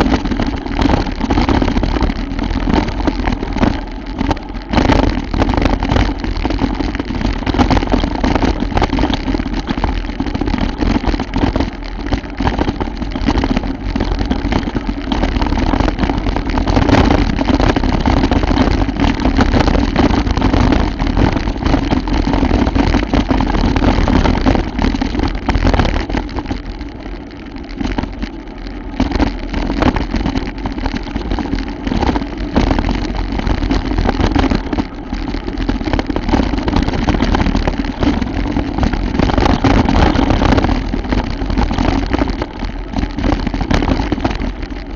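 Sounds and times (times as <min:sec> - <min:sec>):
bicycle on rough trail: 0:00.0 - 0:44.9
bicycle rattles and knocks: 0:00.0 - 0:44.9.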